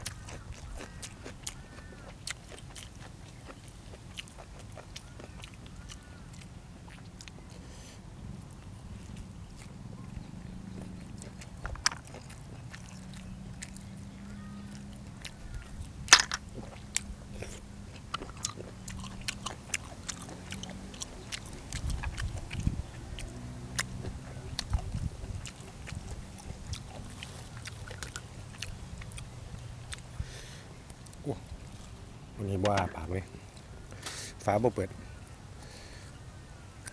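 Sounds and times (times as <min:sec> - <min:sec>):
chewing and biting food: 0:00.0 - 0:34.5
low steady hum: 0:00.0 - 0:36.9.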